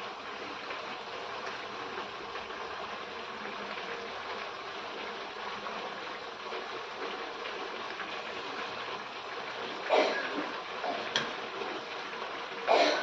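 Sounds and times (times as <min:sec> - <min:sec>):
liquid boiling and bubbling: 0:00.0 - 0:13.0.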